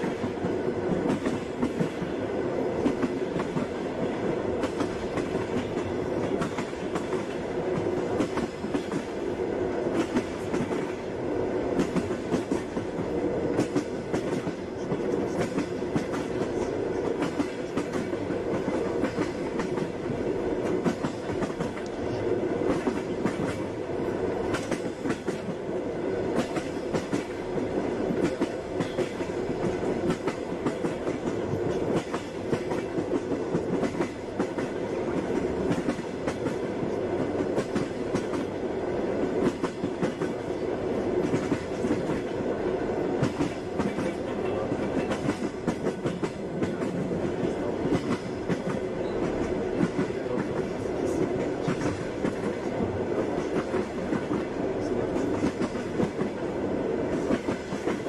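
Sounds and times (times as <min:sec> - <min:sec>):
train carriage rumble: 0:00.0 - 0:58.0
train wheels clattering on rails: 0:00.0 - 0:58.0.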